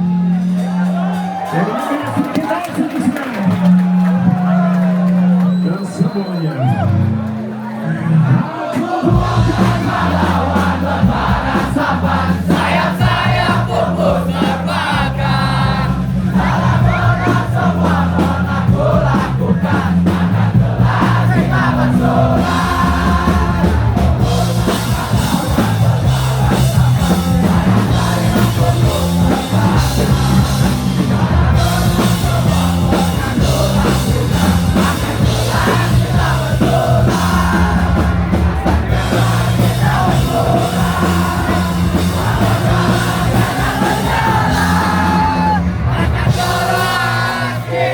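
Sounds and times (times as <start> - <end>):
punk rock band playing: 0.0 - 5.4, 6.9 - 47.9
crowd: 0.0 - 47.9
bass line: 9.0 - 47.9.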